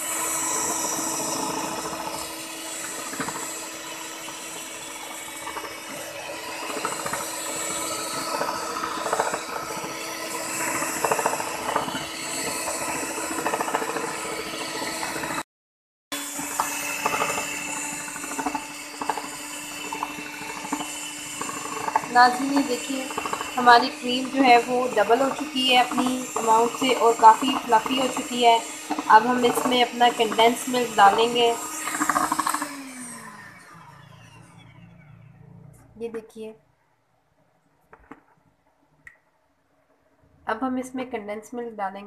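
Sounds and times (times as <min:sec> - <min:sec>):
electric hand mixer motor hum: 0:00.0 - 0:15.5, 0:16.1 - 0:35.7.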